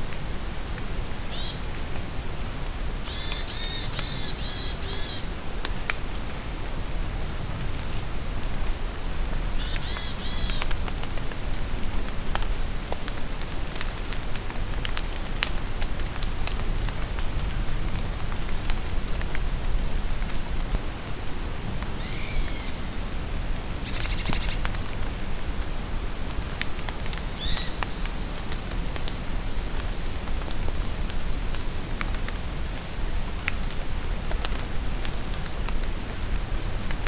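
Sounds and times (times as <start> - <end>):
rain falling in a forest: 0.0 - 37.0.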